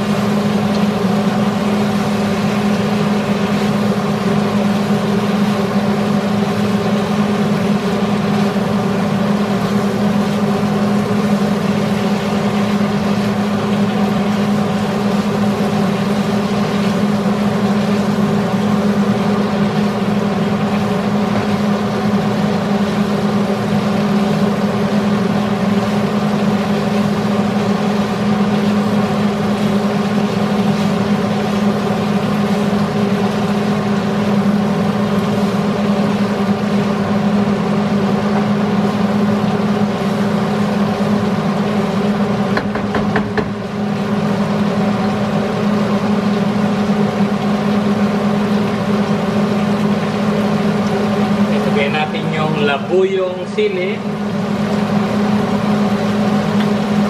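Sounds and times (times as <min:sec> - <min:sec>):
meat frying in a wok: 0:00.0 - 0:57.0
range hood fan humming: 0:00.0 - 0:57.0.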